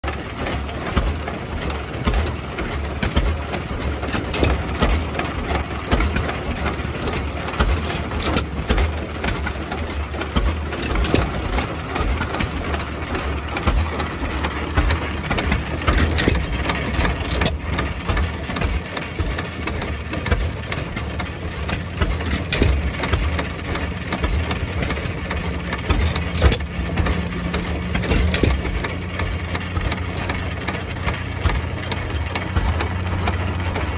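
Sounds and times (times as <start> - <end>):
single-cylinder engine running: 0.0 - 33.9.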